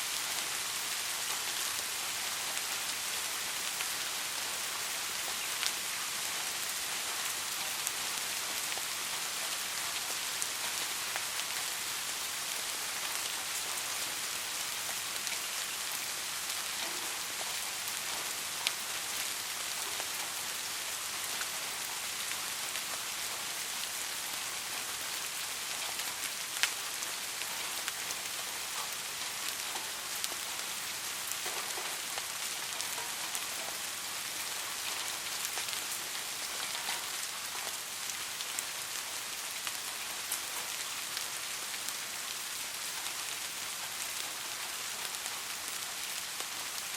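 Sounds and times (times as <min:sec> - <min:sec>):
soft rain falling: 0:00.0 - 0:46.9.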